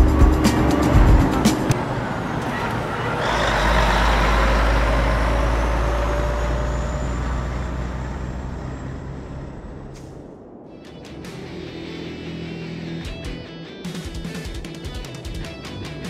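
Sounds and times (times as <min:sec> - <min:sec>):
truck engine rumbling: 0:00.0 - 0:13.2.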